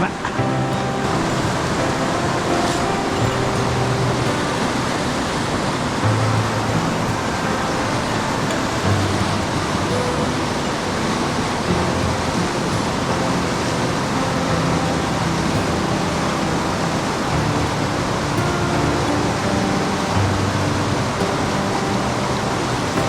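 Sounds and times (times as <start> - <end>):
faint music: 0.0 - 23.0
mountain stream roaring: 0.0 - 23.0.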